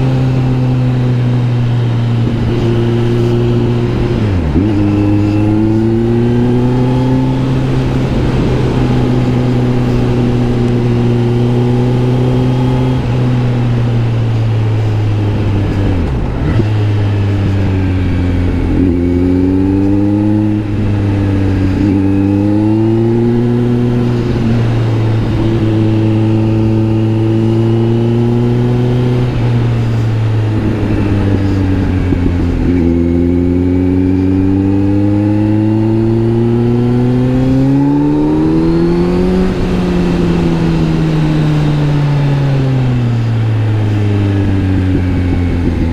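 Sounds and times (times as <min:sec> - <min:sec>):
low drone: 0:00.0 - 0:45.9
motorcycle engine accelerating: 0:00.0 - 0:45.9.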